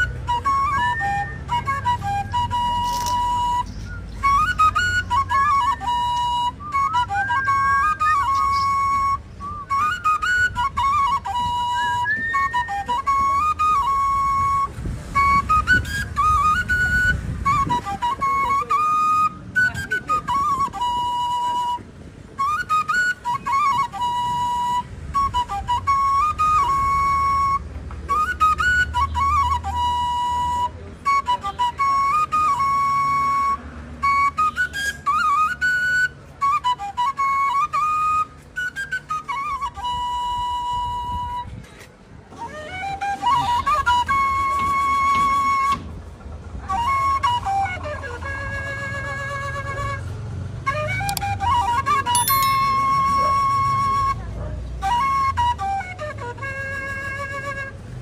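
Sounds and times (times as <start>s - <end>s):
solo flute melody: 0.0s - 58.0s.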